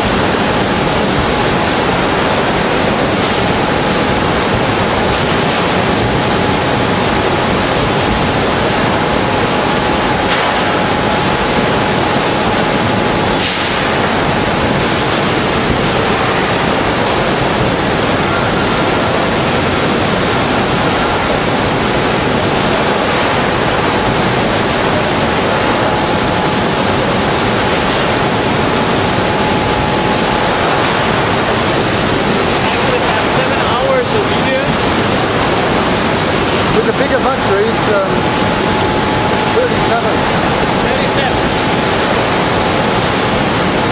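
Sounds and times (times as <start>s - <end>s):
faint steady whine: 0.0s - 43.9s
loud steady rushing noise: 0.0s - 43.9s.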